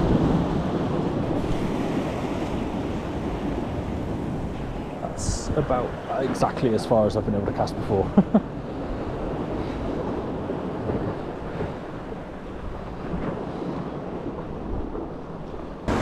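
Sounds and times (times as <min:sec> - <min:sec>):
wind on microphone: 0:00.0 - 0:06.8, 0:08.1 - 0:16.0
sea washing against rocks: 0:00.0 - 0:08.0, 0:09.0 - 0:16.0.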